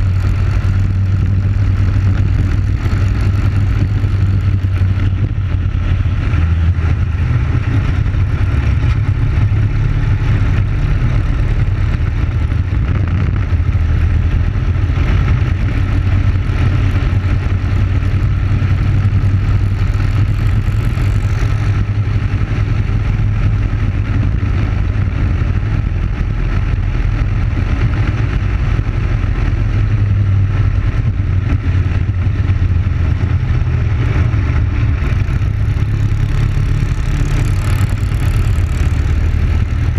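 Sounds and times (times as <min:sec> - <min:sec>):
kart engine running hard: 0:00.0 - 0:39.9
second kart engine: 0:00.0 - 0:39.9.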